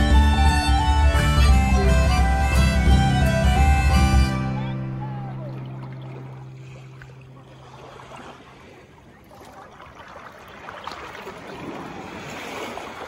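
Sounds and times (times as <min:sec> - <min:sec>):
ocean surf: 0:02.5 - 0:13.0.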